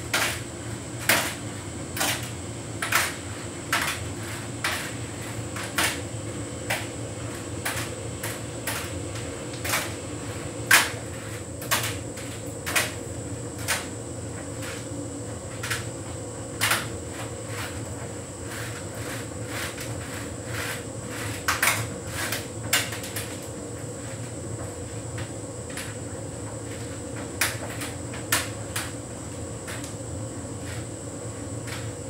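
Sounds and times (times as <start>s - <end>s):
tumble dryer humming with whine: 0.0s - 32.0s.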